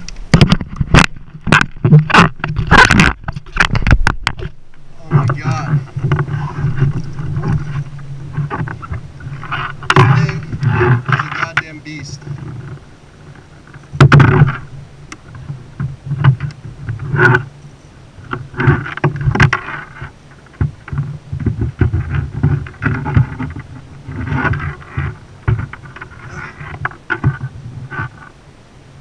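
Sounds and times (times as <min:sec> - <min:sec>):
knocks and bumps on kayak: 0:00.3 - 0:17.5, 0:18.2 - 0:28.3.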